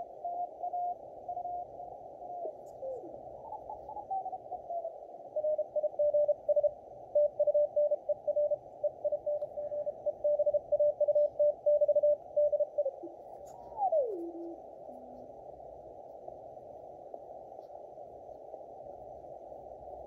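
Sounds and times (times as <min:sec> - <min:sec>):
muffled radio band hiss: 0:00.0 - 0:20.0.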